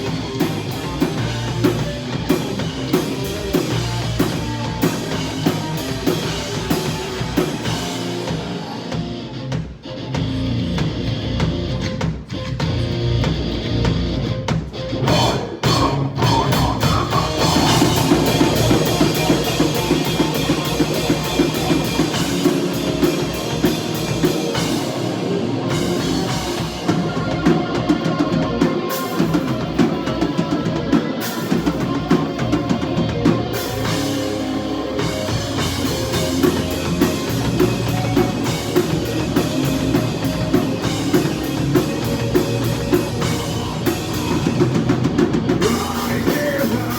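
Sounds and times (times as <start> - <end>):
drum kit: 0.0 - 46.9
heavy electric guitars: 0.0 - 46.9.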